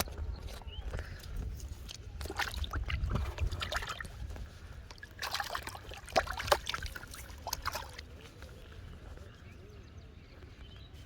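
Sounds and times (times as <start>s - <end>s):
water splashing and trickling: 0.0s - 9.2s.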